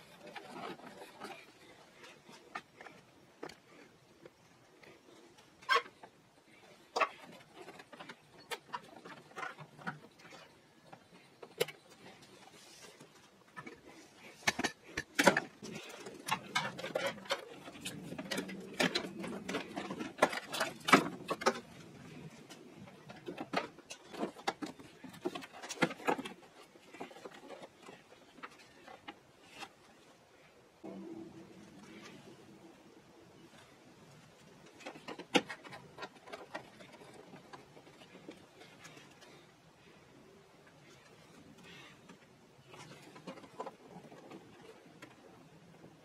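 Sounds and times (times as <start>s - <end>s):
cable handling clicks and rustles: 0.0s - 46.0s
scraping and rustling: 0.0s - 46.0s.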